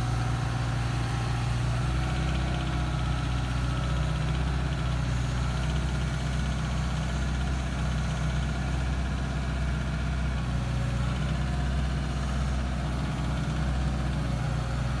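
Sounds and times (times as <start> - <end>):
excavator diesel engine idling: 0.0 - 15.0.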